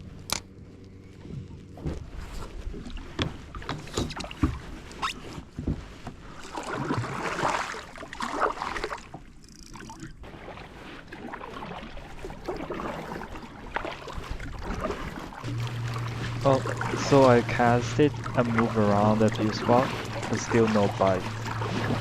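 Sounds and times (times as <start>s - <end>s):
paddle splashing in water: 1.7s - 22.0s.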